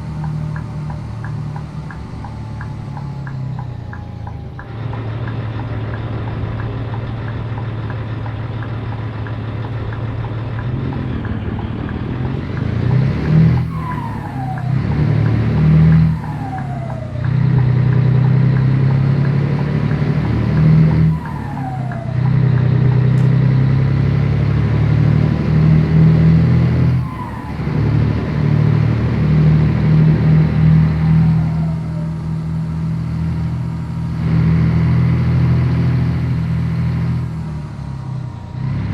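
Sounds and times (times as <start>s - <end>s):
truck diesel engine under load: 0.0s - 38.9s.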